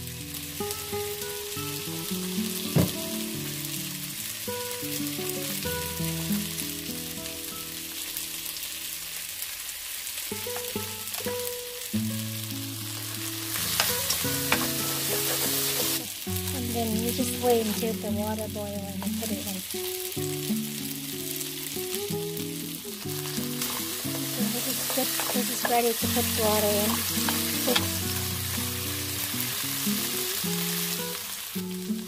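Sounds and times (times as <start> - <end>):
meat sizzling in oil: 0.0 - 32.0.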